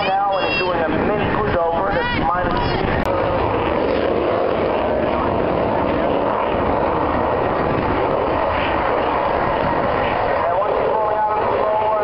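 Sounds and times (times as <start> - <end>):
aircraft engine rush: 0.0 - 12.0.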